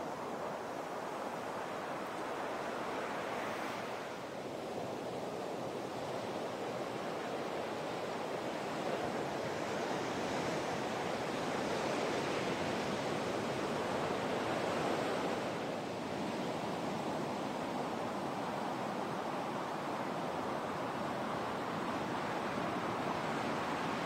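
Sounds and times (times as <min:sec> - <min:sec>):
ocean waves breaking on beach: 0:00.1 - 0:24.0.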